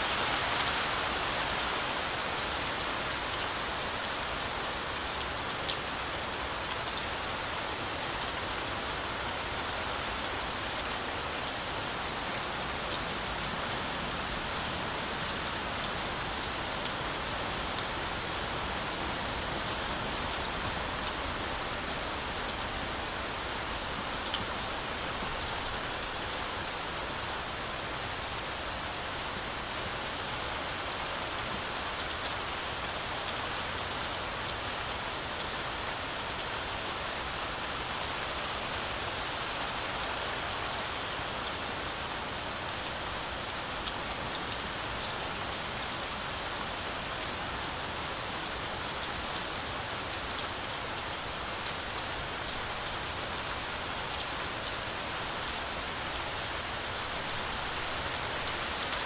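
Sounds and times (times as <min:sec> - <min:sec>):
heavy rain through forest canopy: 0:00.0 - 0:59.0.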